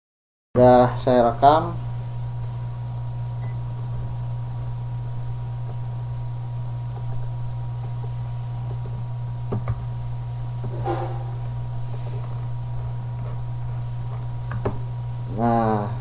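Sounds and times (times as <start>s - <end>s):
low electrical hum: 0.6s - 16.0s.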